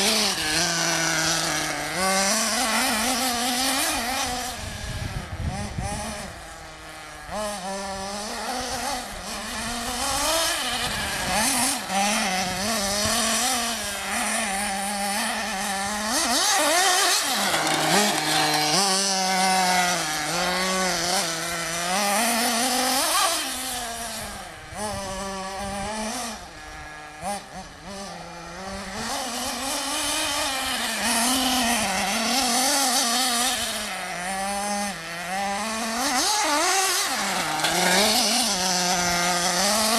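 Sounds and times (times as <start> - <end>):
radio-controlled car engine revving: 0.0 - 39.9.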